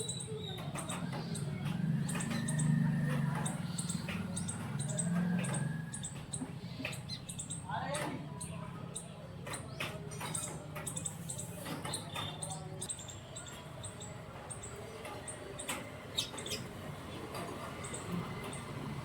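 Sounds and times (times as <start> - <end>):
parakeets chirping: 0.0 - 19.0.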